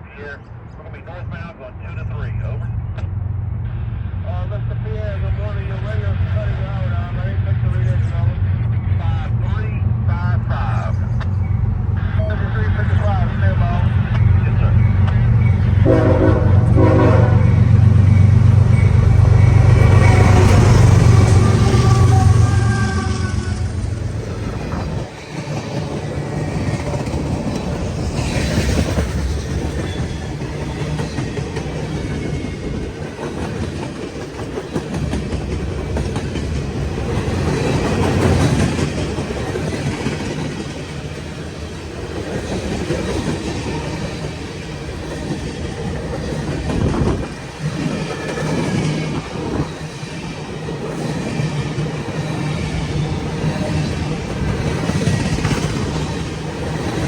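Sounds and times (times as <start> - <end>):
freight train wheels clattering: 9.6 - 57.0.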